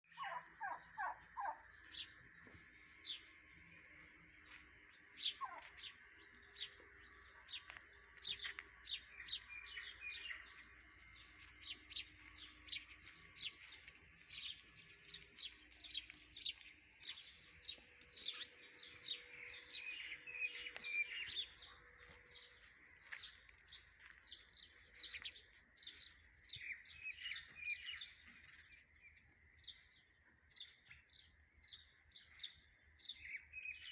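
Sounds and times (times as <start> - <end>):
many birds chirping: 0.0 - 33.9.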